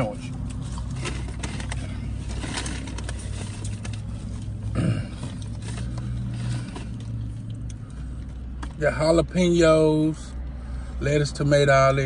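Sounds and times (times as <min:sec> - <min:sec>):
steady low car hum: 0:00.0 - 0:12.0.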